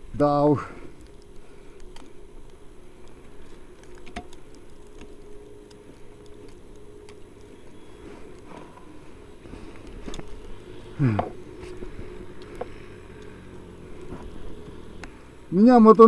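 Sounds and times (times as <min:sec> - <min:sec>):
sharp clicks: 0:00.9 - 0:15.4
footsteps crunching in snow: 0:01.0 - 0:15.4.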